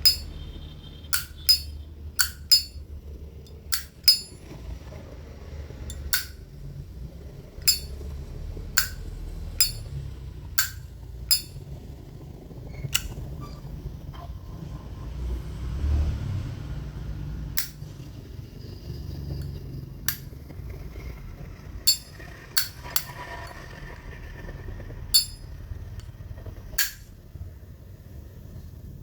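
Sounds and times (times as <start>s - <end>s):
low steady hum: 0.0s - 14.5s, 17.3s - 29.0s.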